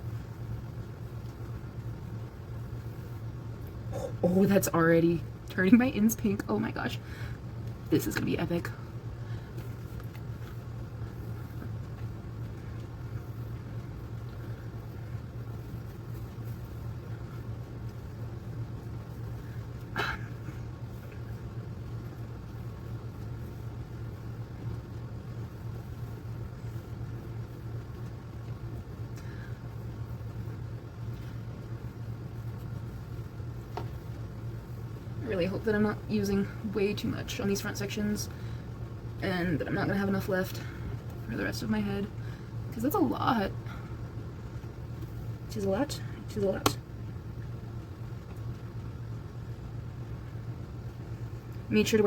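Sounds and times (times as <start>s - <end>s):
low background hum: 0.0s - 52.0s.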